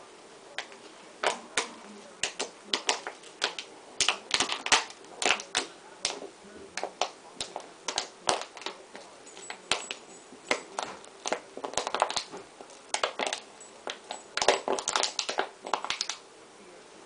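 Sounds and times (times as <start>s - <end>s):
dog chewing crackling plastic toy: 0.6s - 16.2s.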